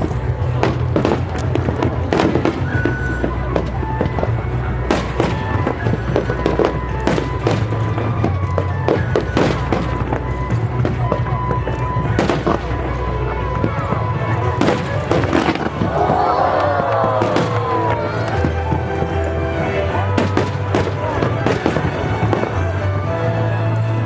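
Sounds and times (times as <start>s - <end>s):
background music: 0.0s - 24.0s
fireworks bangs and crackles: 0.0s - 24.0s.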